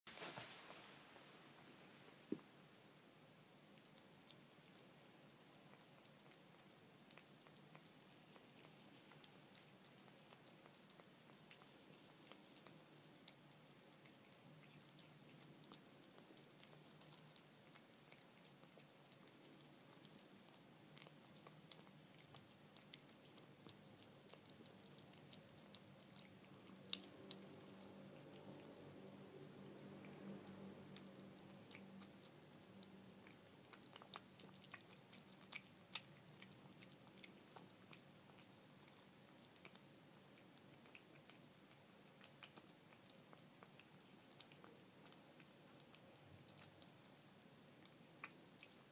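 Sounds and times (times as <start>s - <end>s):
cat licking and chewing: 0.1s - 48.9s.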